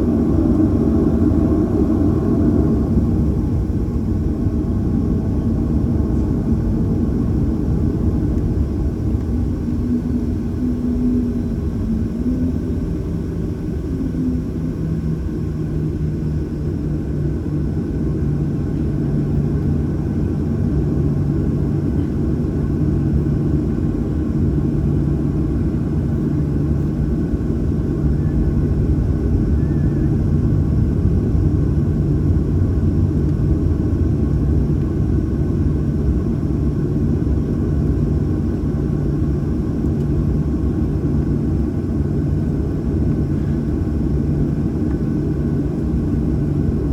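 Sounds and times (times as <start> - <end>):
aircraft cabin engine rumble: 0.0 - 46.9
low steady hum: 0.0 - 46.9.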